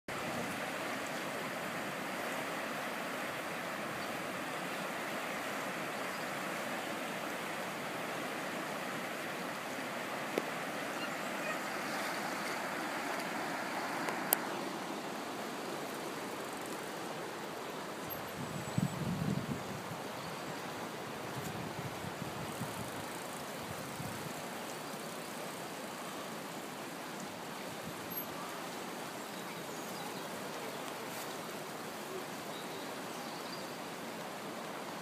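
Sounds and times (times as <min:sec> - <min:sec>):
water rushing over weir: 0:00.1 - 0:35.0.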